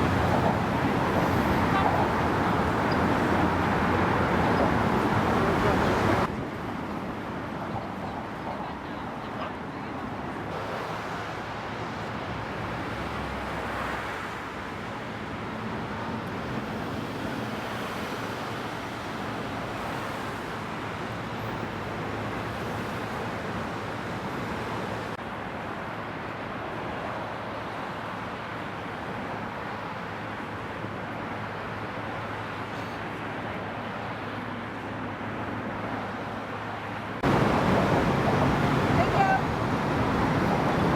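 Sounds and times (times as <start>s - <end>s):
road traffic hum: 0.0s - 40.9s.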